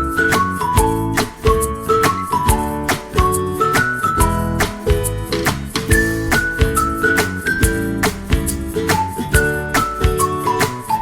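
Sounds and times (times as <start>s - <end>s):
music with steady beat and melody: 0.0s - 11.0s.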